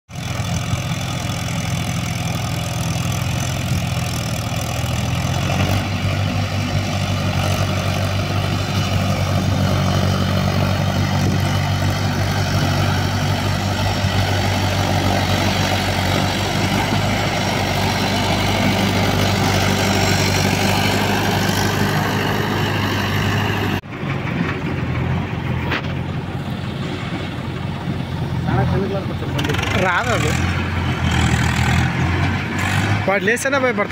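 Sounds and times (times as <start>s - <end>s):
backhoe loader engine running: 0.1s - 33.9s
diesel tractor engine running: 0.1s - 33.9s.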